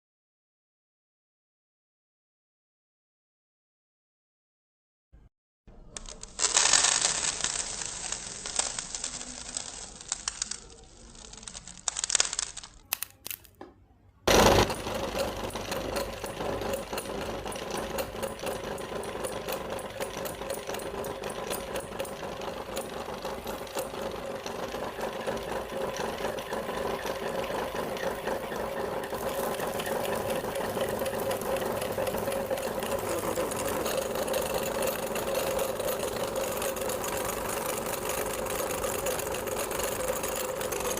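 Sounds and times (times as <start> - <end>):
electric meat grinder grinding candy: 5.9 - 13.5, 14.3 - 40.9.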